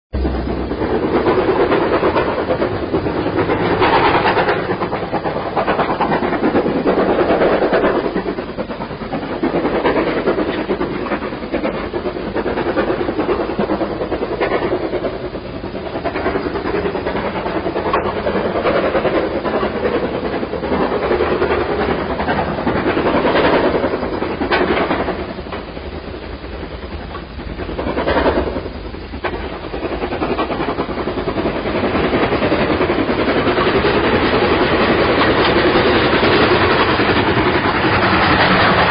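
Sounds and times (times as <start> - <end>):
steam train rolling rumble: 0.1 - 38.9.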